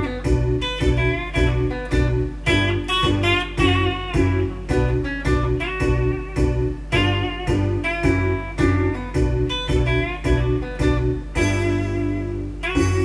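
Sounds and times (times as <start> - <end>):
blues guitar music: 0.0 - 13.0.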